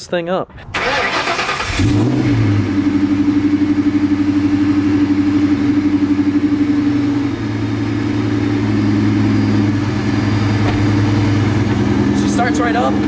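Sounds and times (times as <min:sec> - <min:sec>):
car engine idling: 0:00.8 - 0:13.0.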